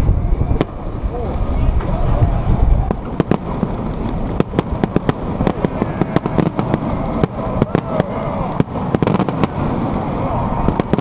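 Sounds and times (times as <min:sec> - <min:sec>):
fireworks bangs and crackling: 0:00.0 - 0:11.0
steady background noise: 0:00.0 - 0:11.0.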